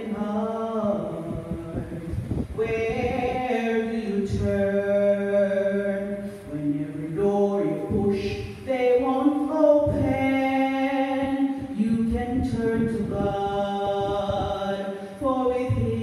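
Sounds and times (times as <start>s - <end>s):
woman singing slow song: 0.0s - 16.0s.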